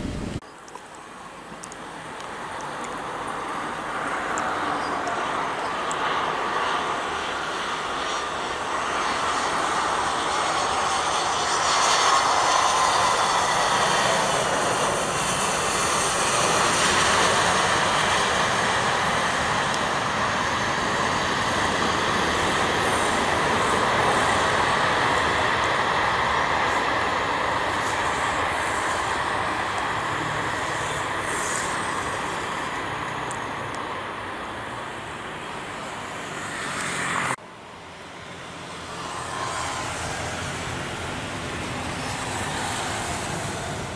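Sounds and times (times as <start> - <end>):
jet airliner landing: 0.0 - 0.5, 2.4 - 43.9.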